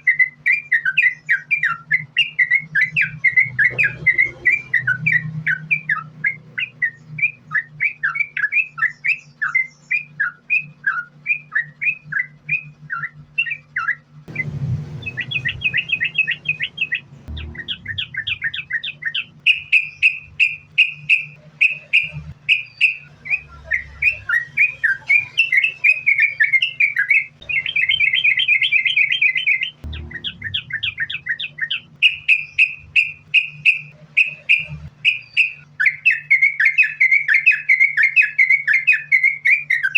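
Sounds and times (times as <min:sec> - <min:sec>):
bird buzzy trills: 0:00.0 - 0:39.9
bird chattering chirps: 0:00.0 - 0:39.9
steady low hum: 0:00.0 - 0:39.9.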